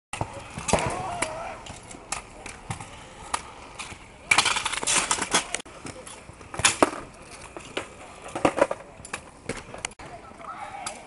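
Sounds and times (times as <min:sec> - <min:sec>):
scooter wheels rolling on concrete: 0:00.2 - 0:11.0.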